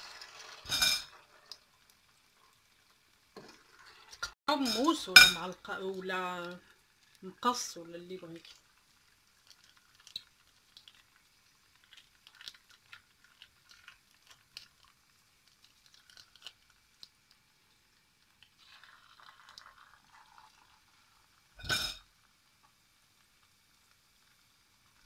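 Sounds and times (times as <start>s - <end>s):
dough frying in hot oil: 0.0s - 25.0s.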